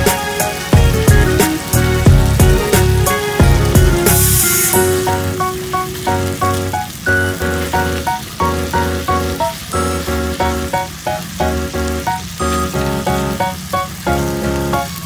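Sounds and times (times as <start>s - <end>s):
chicken sizzling in a pot: 0.0s - 15.0s
upbeat electronic music: 0.0s - 15.0s.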